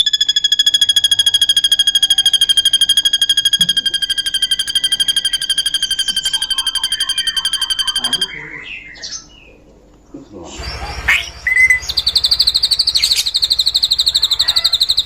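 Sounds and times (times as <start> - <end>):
bird fast high trill: 0.0 - 9.1, 10.6 - 15.0.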